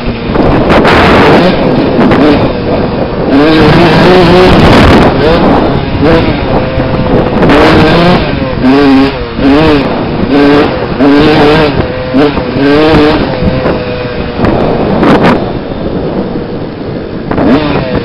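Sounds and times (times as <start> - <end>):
dirt bike engine revving: 0.0 - 18.0
loud rushing noise: 0.0 - 18.0.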